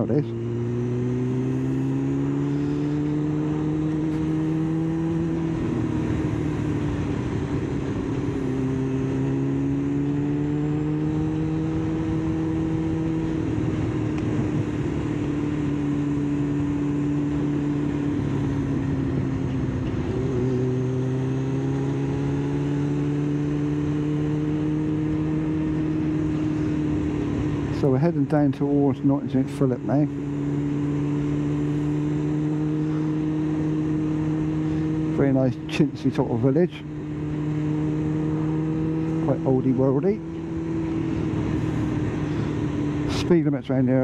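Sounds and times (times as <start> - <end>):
motorcycle engine at road speed: 0.0 - 44.0
wind and road noise: 0.0 - 44.0.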